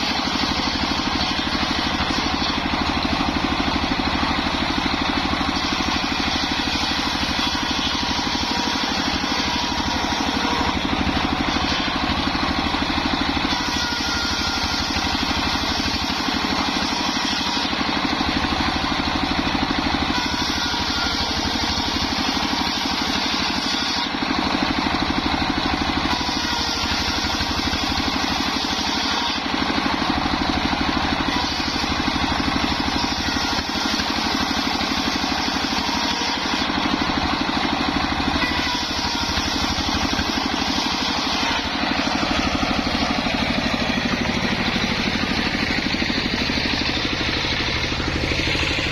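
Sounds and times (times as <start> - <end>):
engine-driven sawmill running: 0.0 - 48.9.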